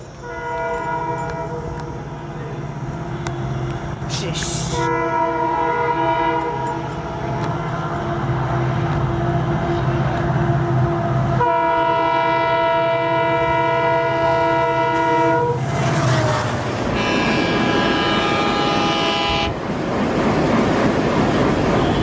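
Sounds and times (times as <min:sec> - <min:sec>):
train running: 0:00.0 - 0:22.0
train horn tones: 0:00.2 - 0:08.9, 0:09.6 - 0:19.6.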